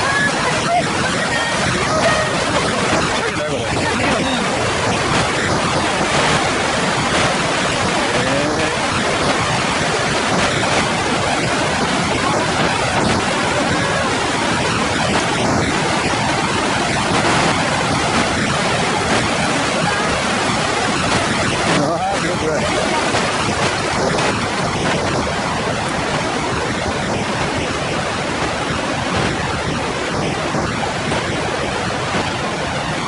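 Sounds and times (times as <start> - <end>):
loud steady rushing noise: 0.0 - 33.0.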